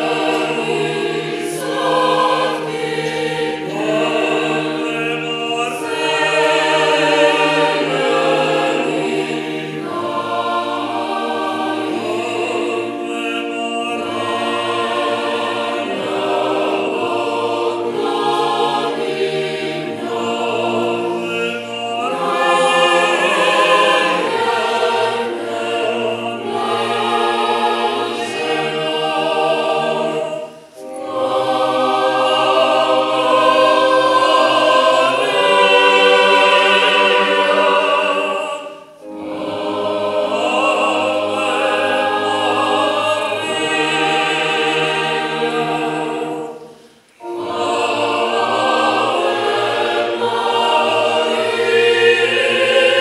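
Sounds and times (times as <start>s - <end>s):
mixed choir singing unaccompanied: 0.0s - 53.0s.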